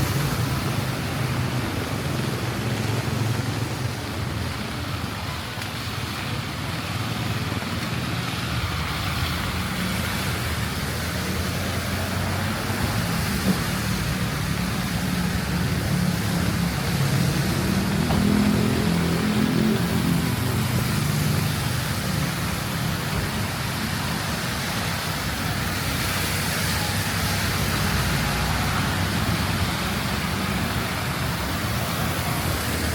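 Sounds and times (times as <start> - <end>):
rain hissing: 0.0 - 32.9
tyres on wet road: 0.0 - 32.9
vehicle engines running: 0.0 - 32.9.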